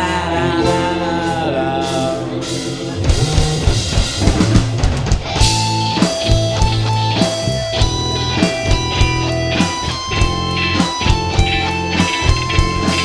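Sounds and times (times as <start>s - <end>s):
drum and bass groove: 0.0s - 13.0s
rock singing: 0.0s - 13.0s.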